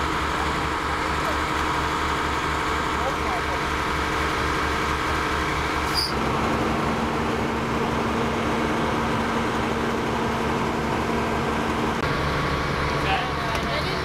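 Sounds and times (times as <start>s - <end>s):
engine power unit running: 0.0s - 14.0s.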